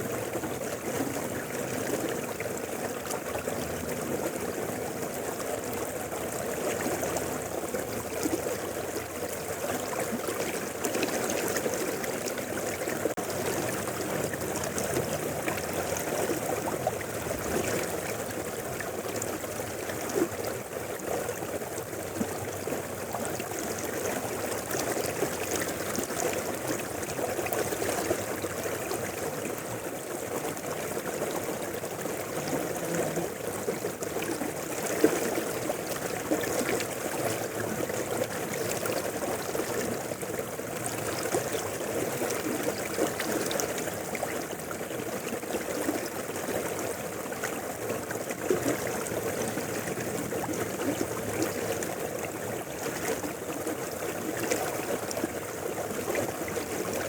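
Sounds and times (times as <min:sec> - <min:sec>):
river water rushing: 0:09.2 - 0:57.0.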